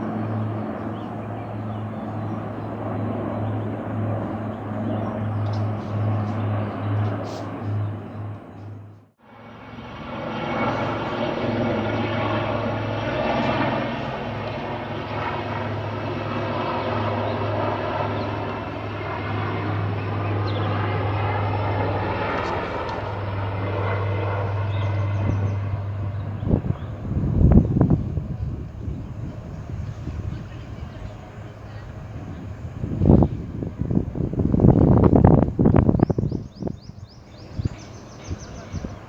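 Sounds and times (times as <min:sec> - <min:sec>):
helicopter engine and rotor: 0:00.0 - 0:39.0.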